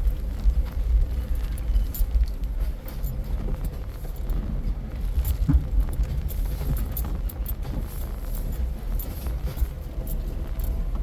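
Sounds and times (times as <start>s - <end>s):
loose gear rattling and clicking: 0.0s - 11.0s
vehicle low rumble: 0.0s - 11.0s.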